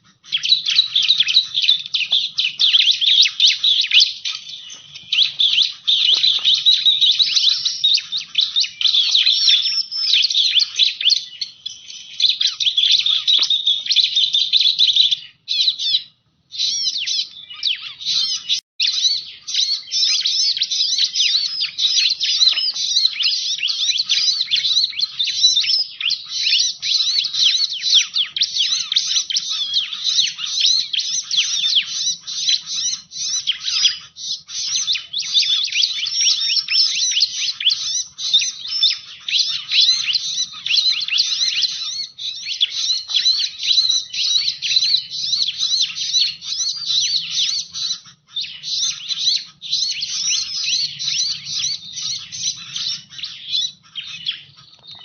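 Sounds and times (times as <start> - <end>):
bird rapid high chirps and trills: 0.0 - 55.0.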